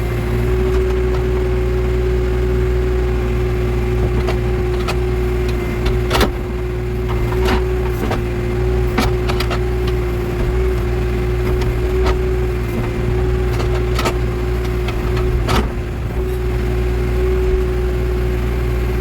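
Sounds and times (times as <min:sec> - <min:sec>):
constant whine: 0:00.0 - 0:19.0
diesel engine running: 0:00.0 - 0:19.0.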